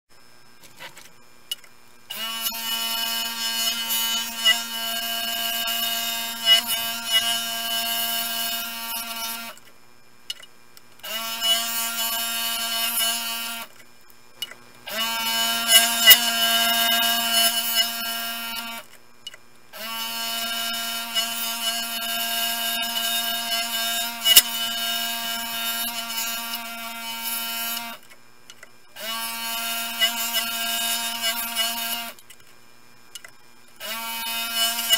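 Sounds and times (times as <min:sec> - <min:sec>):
scroll saw cutting wood: 0:00.6 - 0:09.7, 0:11.0 - 0:32.4, 0:33.2 - 0:34.9.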